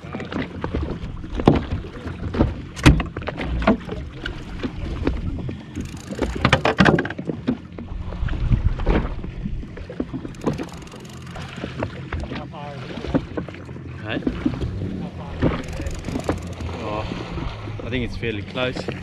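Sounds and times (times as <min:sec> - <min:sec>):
water slapping against a hull: 0:00.0 - 0:19.0.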